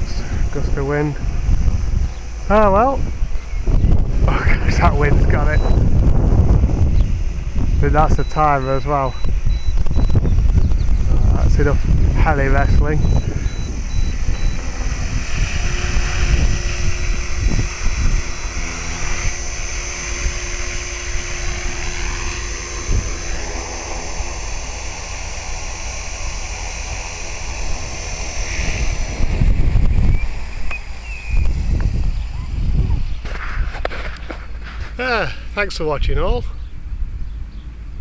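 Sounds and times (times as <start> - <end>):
wind buffeting microphone: 0.0 - 35.0
rc helicopter motor whine: 0.0 - 36.0.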